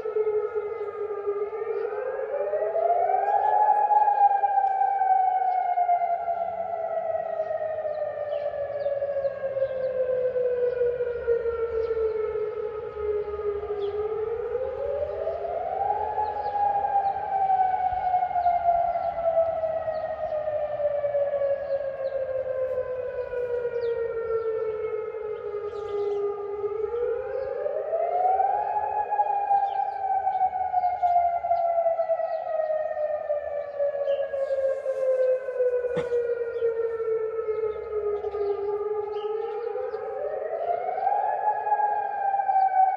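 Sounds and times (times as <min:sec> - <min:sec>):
siren wailing: 0:00.0 - 0:42.9.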